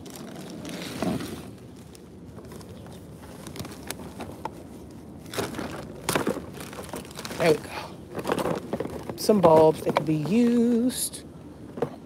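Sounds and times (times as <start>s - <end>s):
plastic trash bag rustling: 0.0s - 11.0s.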